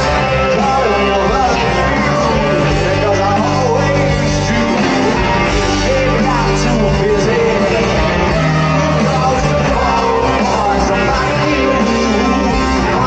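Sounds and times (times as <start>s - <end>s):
live rock band: 0.0s - 13.0s
man singing: 0.0s - 13.0s.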